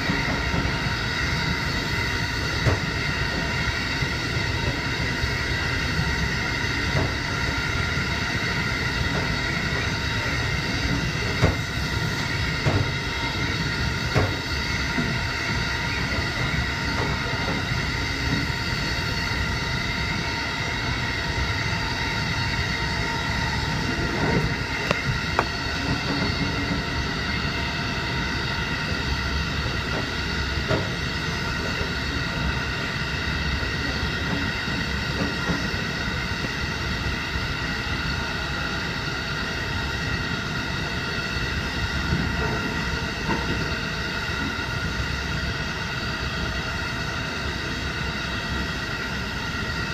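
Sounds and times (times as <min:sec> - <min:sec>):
train motor whine: 0:00.0 - 0:49.9
train rumbling: 0:00.0 - 0:49.9.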